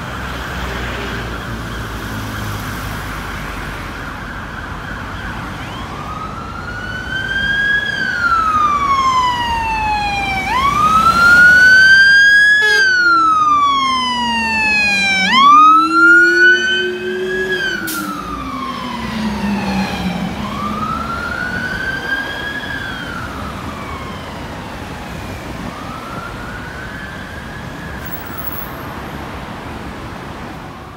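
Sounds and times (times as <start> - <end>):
fire engine siren wailing: 1.0 - 28.8, 29.8 - 30.9
low-pitched siren wail: 1.5 - 28.3.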